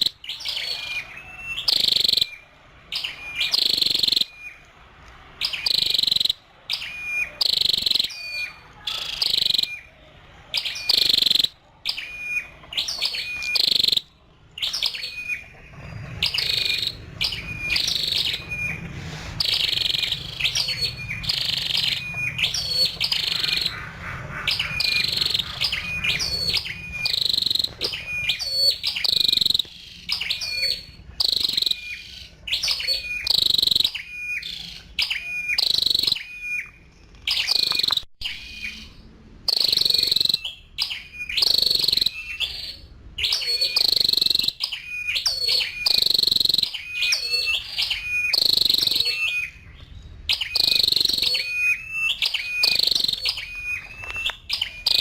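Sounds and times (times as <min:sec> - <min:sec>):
bird high sharp chirps: 0:00.0 - 0:55.0.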